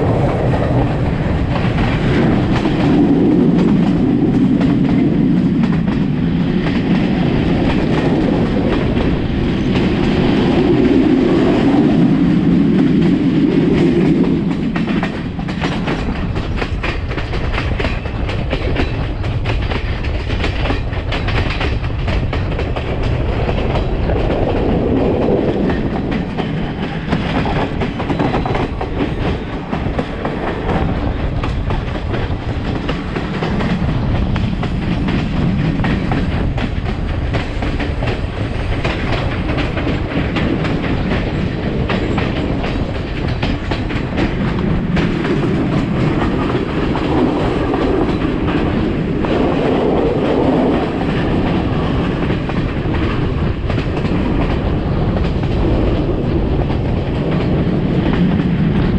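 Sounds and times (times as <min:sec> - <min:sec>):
train rumbling and rattling: 0:00.0 - 0:58.9.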